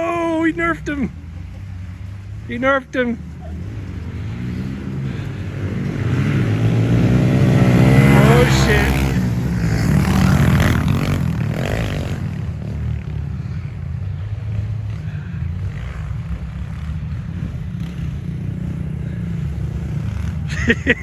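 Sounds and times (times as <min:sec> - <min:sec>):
pit bike engines buzzing: 0:00.0 - 0:21.0.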